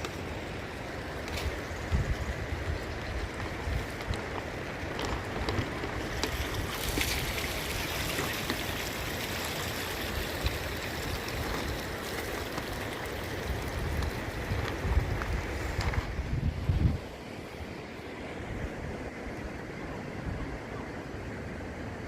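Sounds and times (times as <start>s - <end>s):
storm wind gusting: 0.0s - 20.8s.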